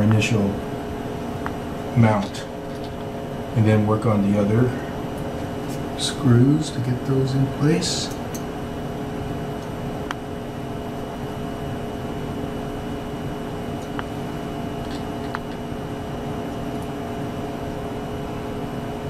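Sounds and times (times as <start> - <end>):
lab equipment humming: 0.0 - 19.0.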